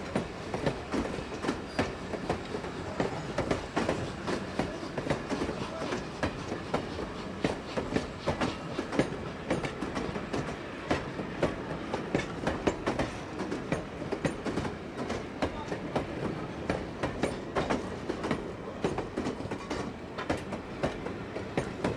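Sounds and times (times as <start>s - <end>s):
train wheels clacking over rail joints: 0.0s - 21.9s.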